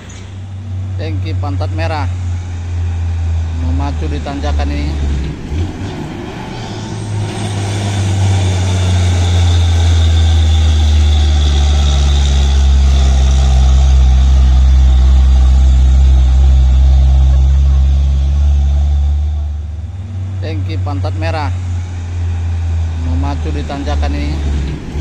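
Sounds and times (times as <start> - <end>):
truck diesel engine drone: 0.0 - 25.0.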